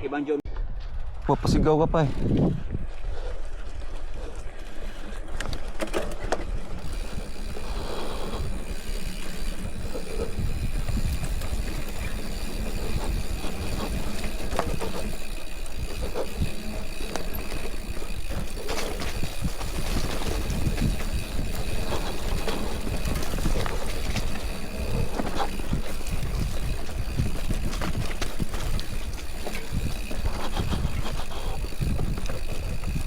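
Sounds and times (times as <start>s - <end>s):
wind on microphone: 0.5s - 5.6s, 6.4s - 33.0s
bike tyres rumbling: 0.5s - 33.0s
bike clicking and rattling: 0.6s - 33.0s.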